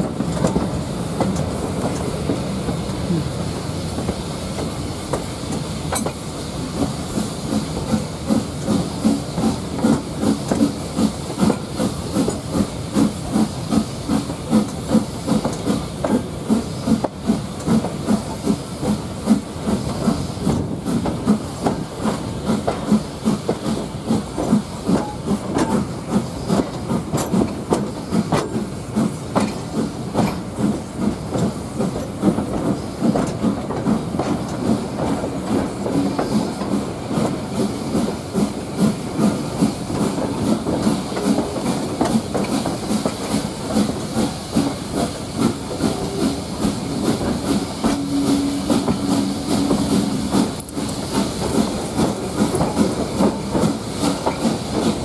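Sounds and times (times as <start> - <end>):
steam hiss: 0.0 - 55.0
steam locomotive exhaust beats: 0.0 - 55.0
train rumbling on rails: 0.0 - 55.0.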